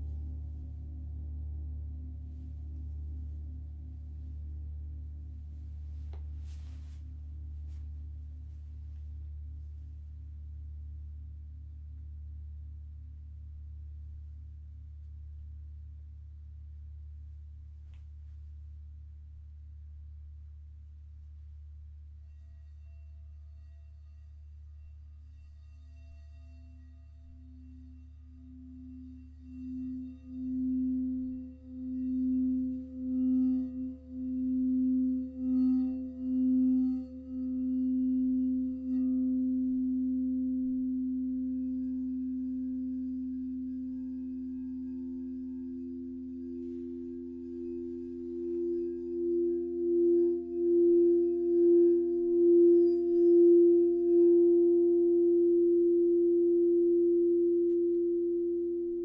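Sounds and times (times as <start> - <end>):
singing bowl tone: 0.0 - 15.8, 20.7 - 59.0.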